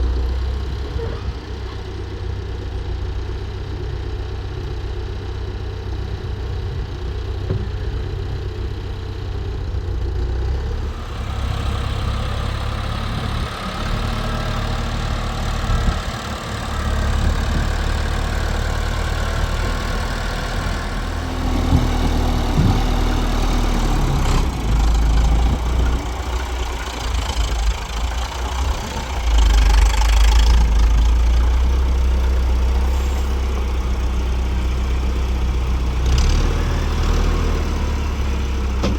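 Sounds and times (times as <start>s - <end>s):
tractor engine rumbling: 0.0s - 38.9s.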